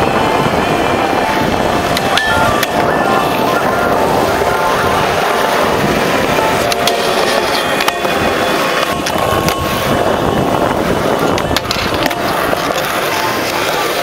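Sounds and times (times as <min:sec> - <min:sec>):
skateboard clacking: 0:00.0 - 0:14.0
skateboard wheels rolling on concrete: 0:00.0 - 0:14.0.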